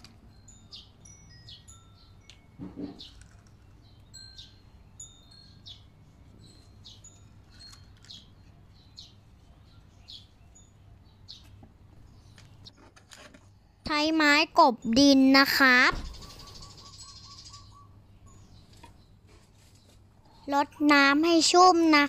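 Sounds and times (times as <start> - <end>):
small birds chirping: 0.0 - 12.8, 13.6 - 22.0.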